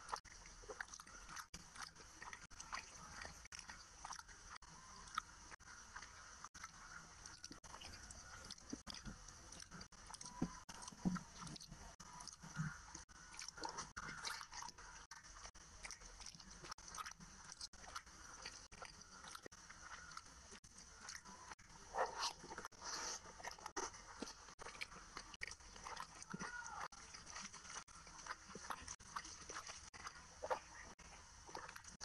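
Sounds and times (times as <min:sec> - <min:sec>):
chewing and mouth sounds: 0:00.0 - 0:32.0.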